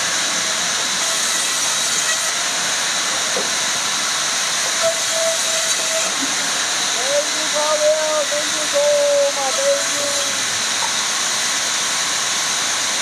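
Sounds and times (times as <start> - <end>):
steady loud hiss: 0.0 - 13.0.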